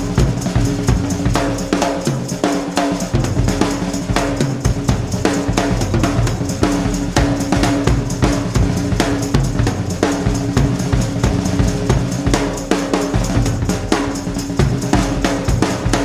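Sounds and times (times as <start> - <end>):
music with driving drum beat: 0.0 - 16.0.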